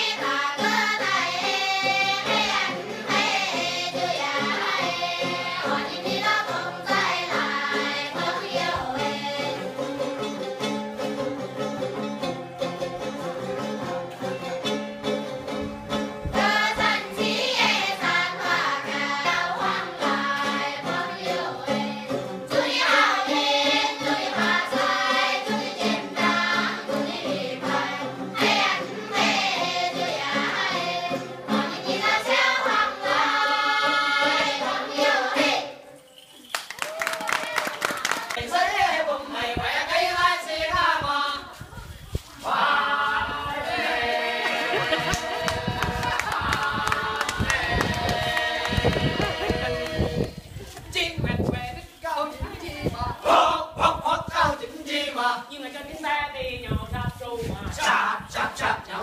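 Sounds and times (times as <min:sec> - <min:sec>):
group singing folk song: 0:00.0 - 0:36.0, 0:37.6 - 0:51.2, 0:52.5 - 0:55.8, 0:57.4 - 0:59.0.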